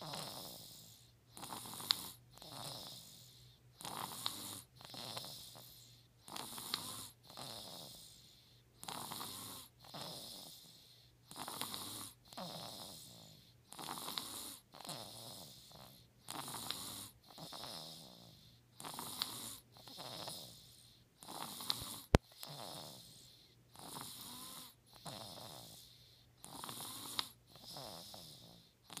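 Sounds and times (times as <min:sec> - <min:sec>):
baby snoring: 0:00.0 - 0:29.0.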